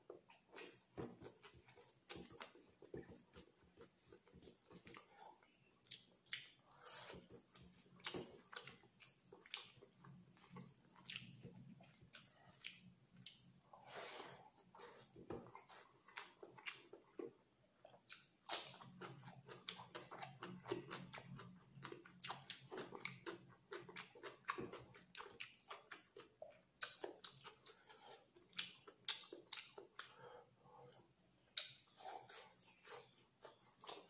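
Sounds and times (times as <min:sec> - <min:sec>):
wet chewing and lip-smacking: 0:00.0 - 0:13.8, 0:14.6 - 0:34.0.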